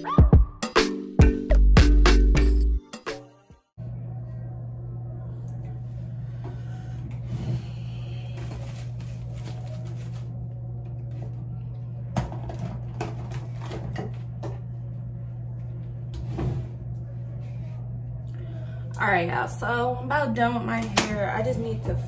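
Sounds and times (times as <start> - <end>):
steady low hum: 3.8 - 22.0.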